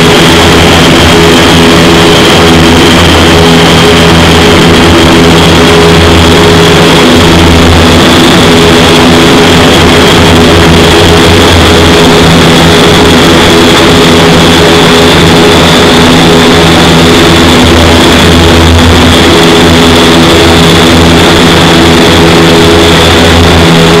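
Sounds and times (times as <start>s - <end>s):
fans humming: 0.0s - 24.0s
rushing air in wind tunnel: 0.0s - 24.0s.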